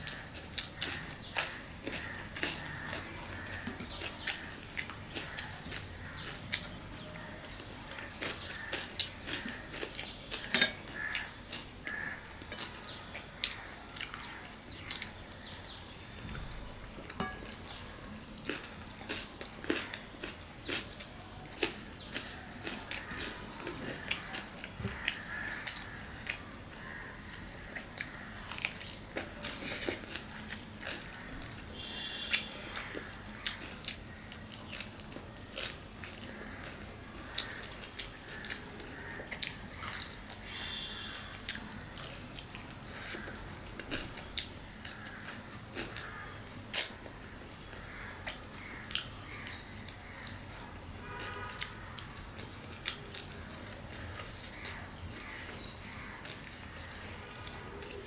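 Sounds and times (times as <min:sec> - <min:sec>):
person chewing: 0:00.0 - 0:15.5, 0:17.0 - 0:27.1, 0:27.7 - 0:58.0.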